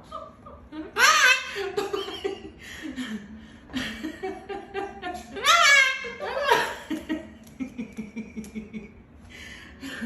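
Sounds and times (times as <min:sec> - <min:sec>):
laughter: 0:00.0 - 0:09.2.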